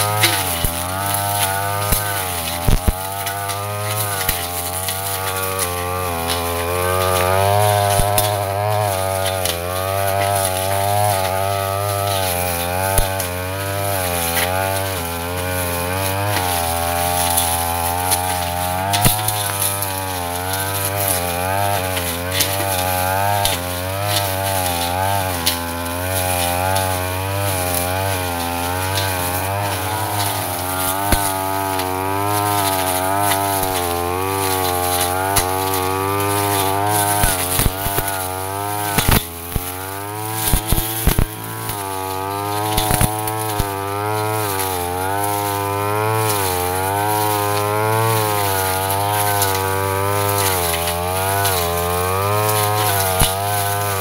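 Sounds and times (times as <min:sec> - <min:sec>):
brush cutter engine at high revs: 0:00.0 - 0:54.0.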